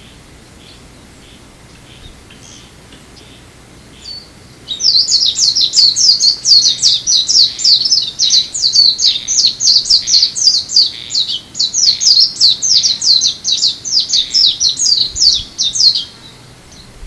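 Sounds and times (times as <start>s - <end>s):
bird twittering song: 0.0s - 17.0s.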